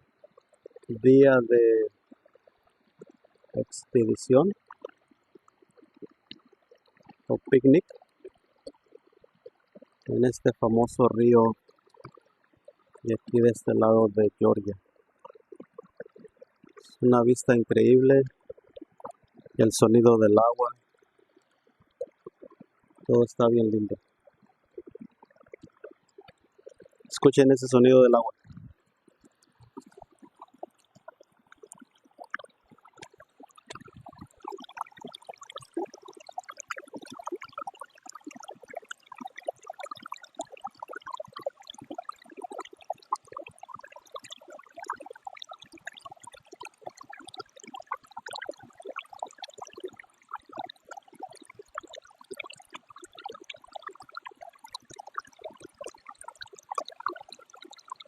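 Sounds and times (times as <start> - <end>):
creek water babbling: 0.0 - 58.0.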